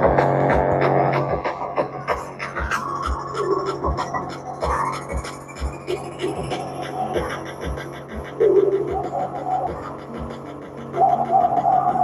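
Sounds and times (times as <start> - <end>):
kick-drum beats: 0.0 - 10.4
song on a speaker: 0.0 - 12.0.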